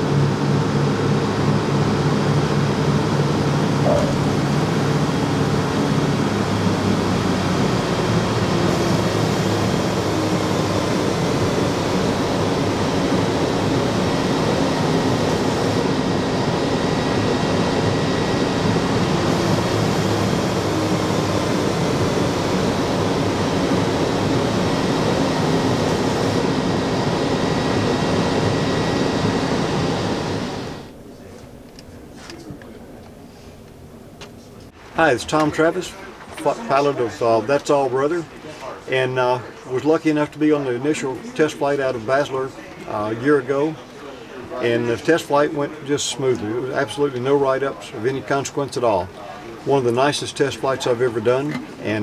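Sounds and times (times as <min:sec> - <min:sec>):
propeller plane engines from cabin: 0:00.0 - 0:52.0.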